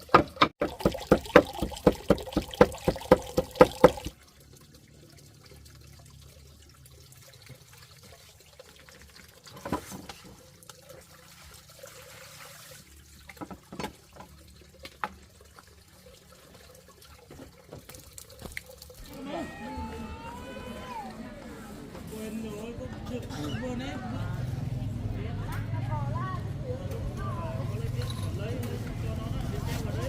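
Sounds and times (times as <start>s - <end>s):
faint trickling water: 0.0s - 30.0s.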